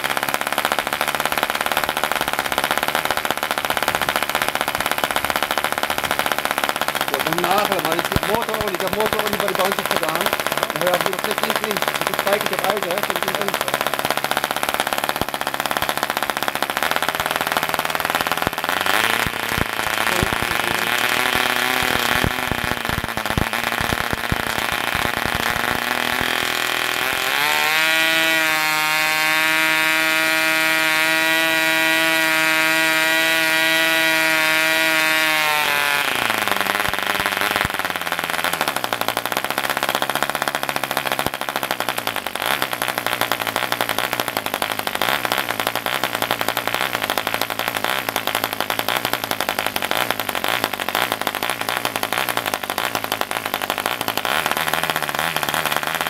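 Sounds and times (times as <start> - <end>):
model engine running high-pitched: 0.0 - 56.0.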